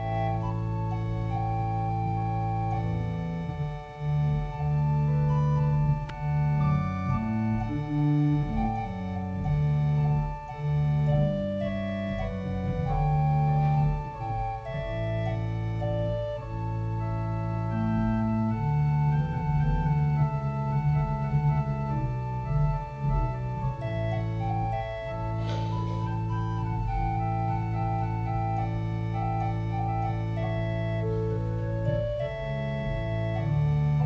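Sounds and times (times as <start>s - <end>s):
organ chords: 0.0s - 34.0s.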